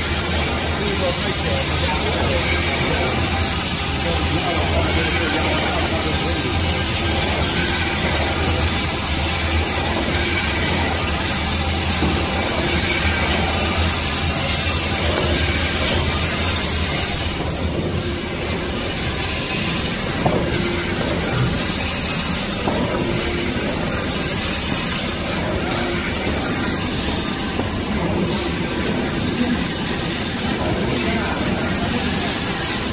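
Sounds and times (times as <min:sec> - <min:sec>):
band saw cutting with hiss: 0:00.0 - 0:32.9.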